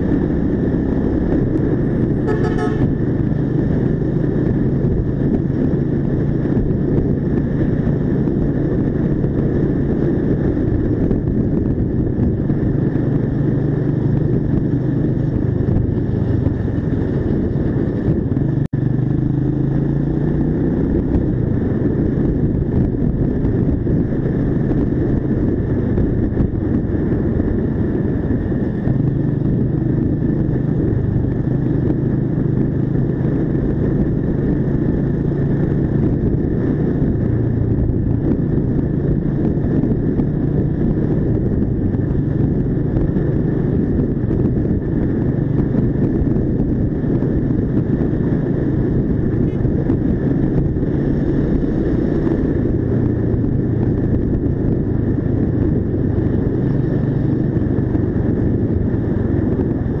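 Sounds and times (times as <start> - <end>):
motorcycle engine running: 0.0 - 60.0
road and wind noise: 0.0 - 60.0.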